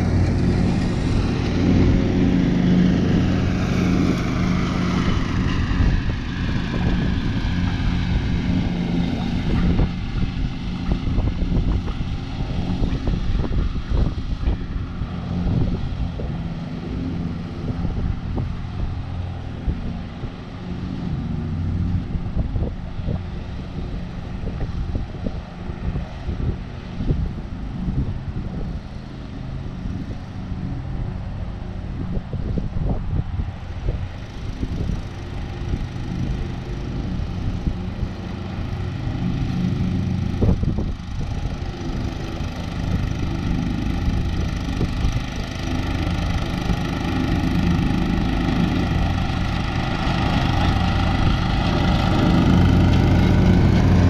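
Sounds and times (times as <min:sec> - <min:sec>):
distant lawn mower engine: 0:00.0 - 0:54.0.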